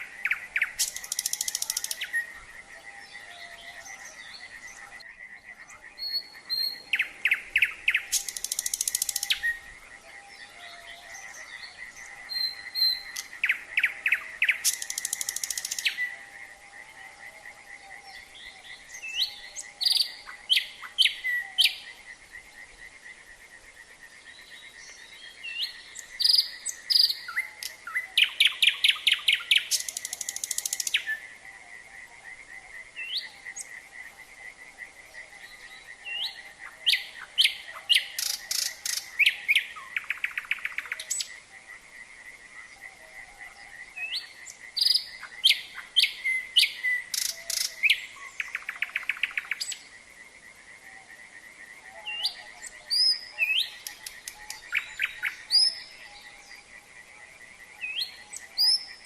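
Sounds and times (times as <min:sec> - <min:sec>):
chorus of calling frogs: 0:00.0 - 0:59.0
nightingale singing trills: 0:00.0 - 0:59.0.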